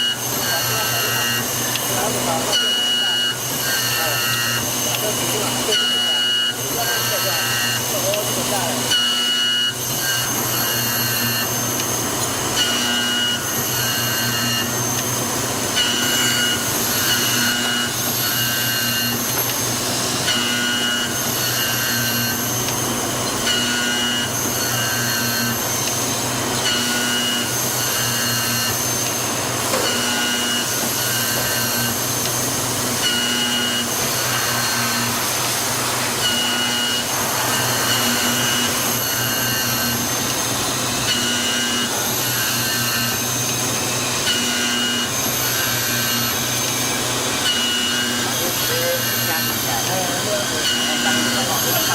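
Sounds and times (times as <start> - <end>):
high-pitched cutter whine: 0.0 - 51.9
key milling machine motor hum: 0.0 - 51.9.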